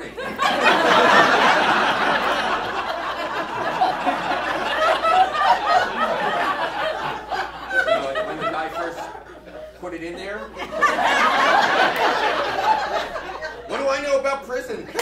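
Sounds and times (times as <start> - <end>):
audience laughing: 0.0 - 14.0.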